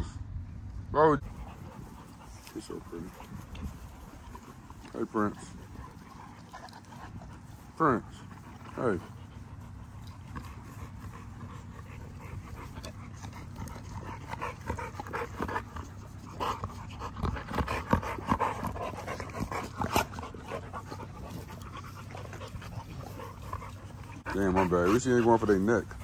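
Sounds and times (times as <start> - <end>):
dogs panting: 1.2 - 26.0
dogs snuffling and clicking: 1.2 - 26.0.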